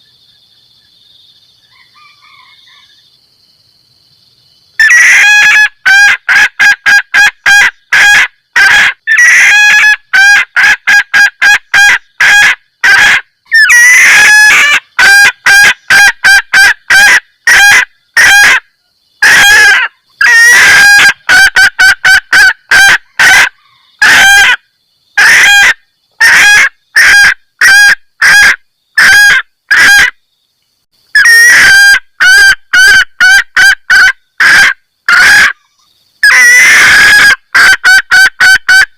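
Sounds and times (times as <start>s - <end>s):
junglefowl hen cackling: 1.6s - 3.0s, 4.8s - 24.6s, 25.2s - 30.2s, 31.1s - 38.9s.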